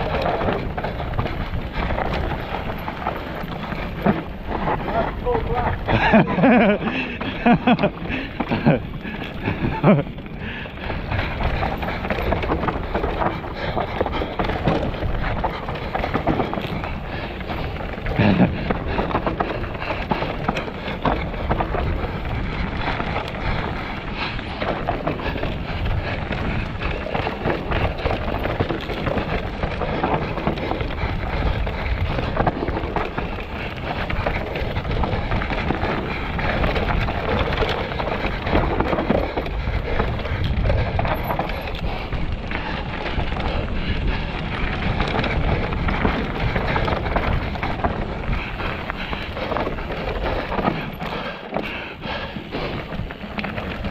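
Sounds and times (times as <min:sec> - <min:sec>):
bike rattling: 0:00.0 - 0:53.9
tyres rumbling over rock: 0:00.0 - 0:53.9.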